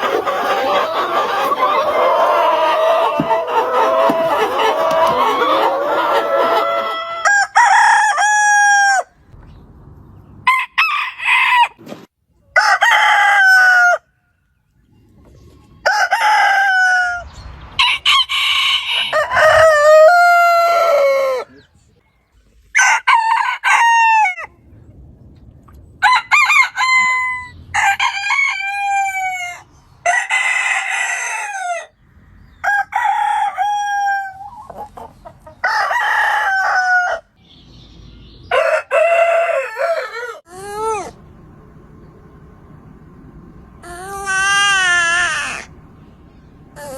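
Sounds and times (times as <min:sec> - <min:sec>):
roosters crowing: 0:00.0 - 0:09.3, 0:10.4 - 0:14.2, 0:15.6 - 0:21.7, 0:22.7 - 0:24.5, 0:26.0 - 0:37.4, 0:38.4 - 0:46.9.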